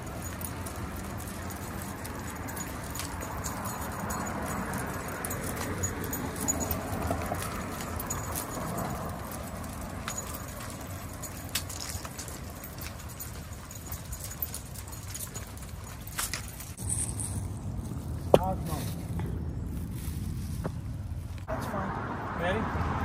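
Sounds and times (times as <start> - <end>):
dog tags and leash clips jingling: 0.0 - 19.8
road traffic: 0.0 - 23.0.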